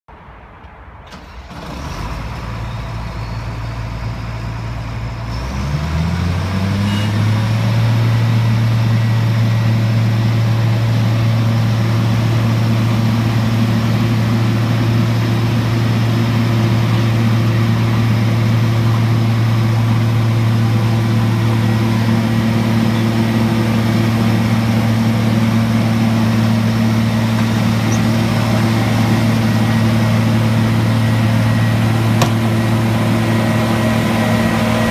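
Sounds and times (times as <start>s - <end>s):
diesel engine speeding up: 1.1s - 34.9s.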